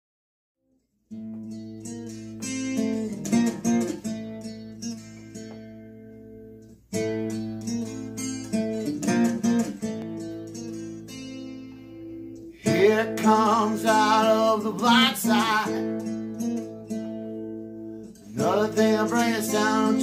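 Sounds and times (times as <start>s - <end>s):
acoustic guitar riff: 0.8s - 20.0s.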